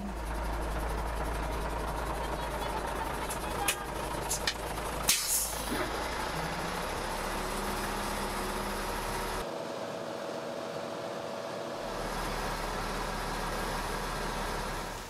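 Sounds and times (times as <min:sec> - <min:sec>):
water truck engine running: 0:00.0 - 0:15.0.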